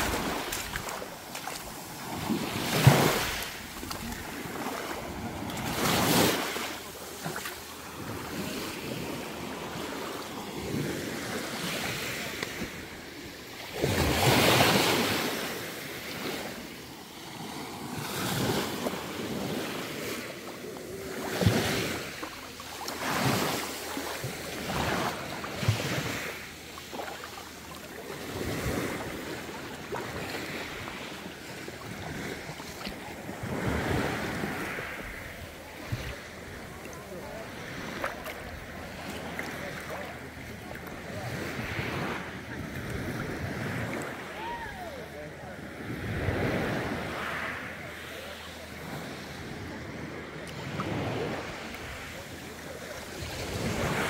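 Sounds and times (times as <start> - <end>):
waves on pebble shore: 0.0 - 54.0.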